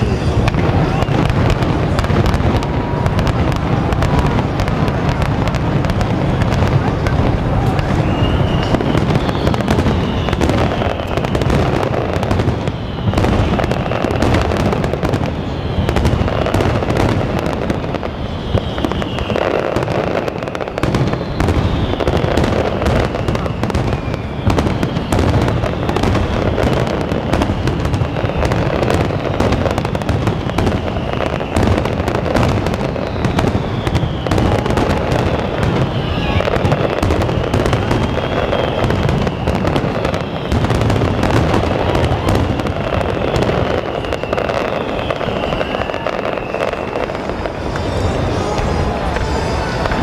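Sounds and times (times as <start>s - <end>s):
firework booms and crackling: 0.0s - 50.0s.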